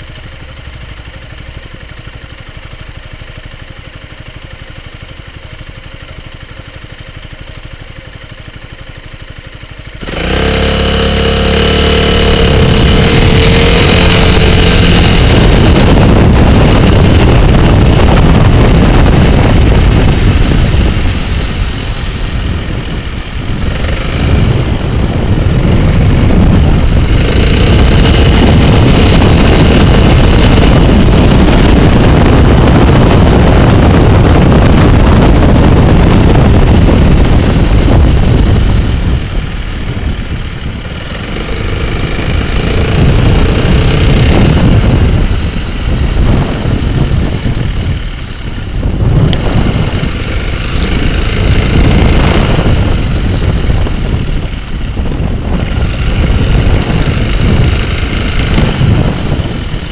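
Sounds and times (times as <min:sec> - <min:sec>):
road and wind rush: 0:00.0 - 0:59.9
scooter engine: 0:00.0 - 0:59.9.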